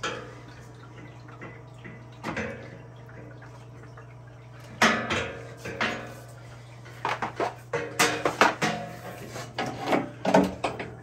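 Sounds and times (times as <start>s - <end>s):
metal plumbing fittings clattering: 0.0s - 11.0s.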